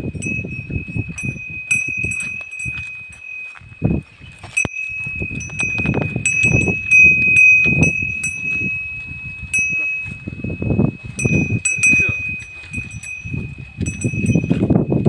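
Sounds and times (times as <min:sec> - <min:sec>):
dull low thuds: 0:00.0 - 0:15.0
metal cow bell ringing: 0:00.0 - 0:15.0.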